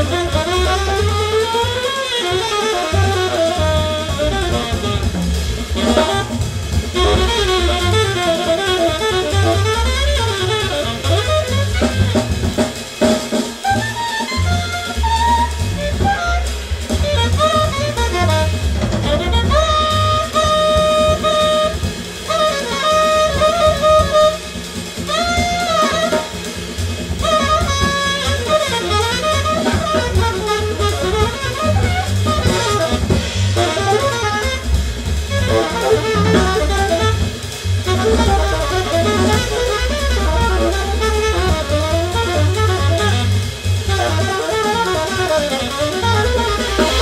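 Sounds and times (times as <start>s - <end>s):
bass: 0.0s - 47.0s
drums: 0.0s - 47.0s
saxophone: 0.0s - 47.0s.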